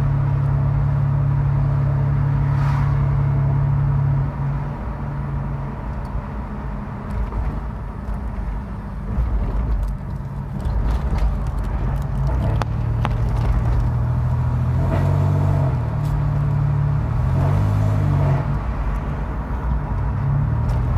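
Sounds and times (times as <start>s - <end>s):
vehicle engine drone: 0.0s - 20.9s.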